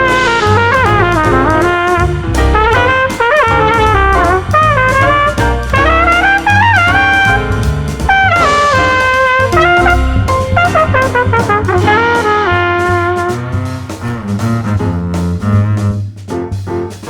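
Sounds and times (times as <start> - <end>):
trumpet solo: 0.0 - 14.9
bass: 0.0 - 17.0
drums: 0.0 - 17.0.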